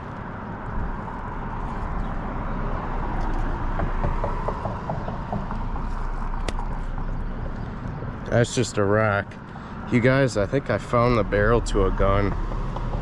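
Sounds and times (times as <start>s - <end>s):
road traffic noise: 0.0s - 13.0s
vehicle passing: 0.0s - 13.0s.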